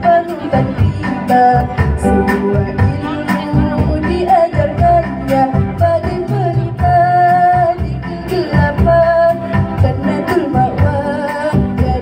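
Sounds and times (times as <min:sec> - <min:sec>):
backing music: 0:00.0 - 0:12.0
woman singing with vibrato: 0:00.0 - 0:12.0.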